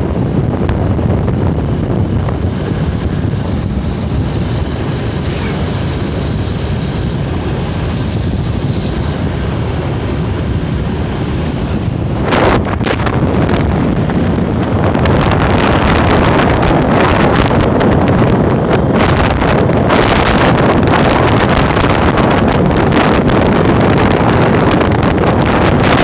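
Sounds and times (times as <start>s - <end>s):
motorbike low rumble: 0.0s - 26.0s
wind rushing over microphone: 0.0s - 26.0s.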